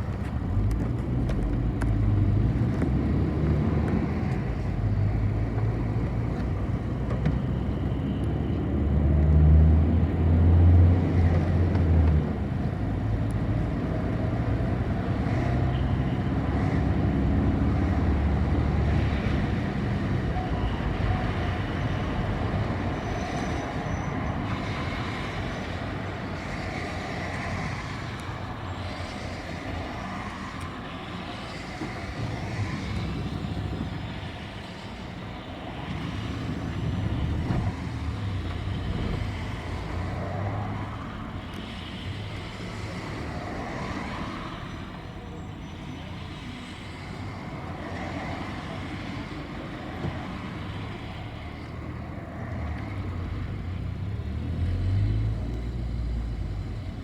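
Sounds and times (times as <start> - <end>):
bus engine and road drone: 0.0 - 57.0.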